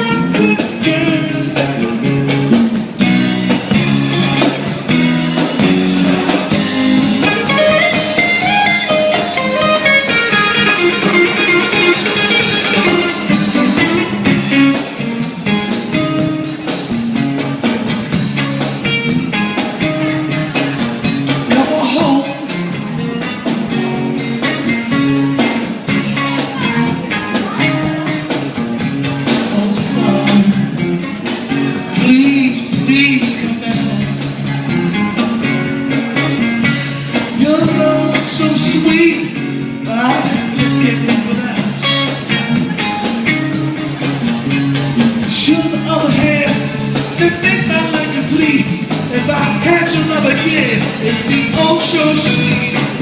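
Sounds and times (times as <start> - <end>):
bass guitar: 0.0 - 53.0
drum kit steady beat: 0.0 - 53.0
electric guitar solo: 0.0 - 53.0.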